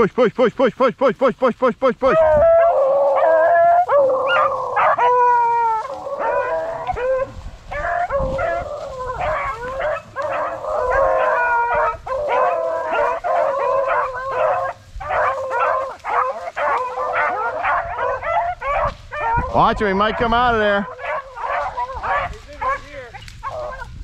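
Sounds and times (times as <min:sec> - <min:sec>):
hounds baying and howling: 0:02.1 - 0:24.0.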